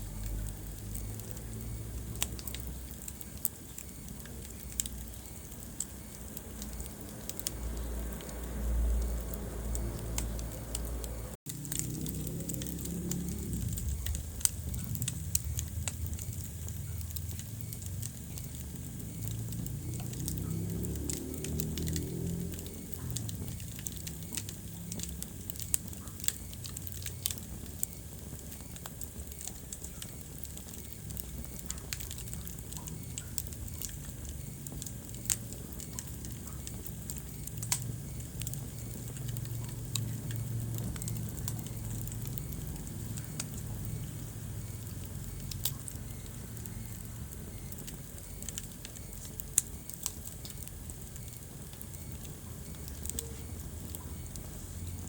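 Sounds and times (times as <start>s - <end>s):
low rumble of burning: 0.0s - 55.0s
wood fire crackling: 0.0s - 55.0s.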